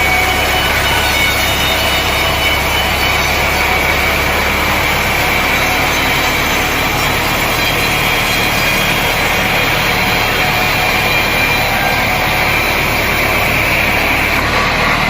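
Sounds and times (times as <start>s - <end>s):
saw cutting through log: 0.0s - 15.0s.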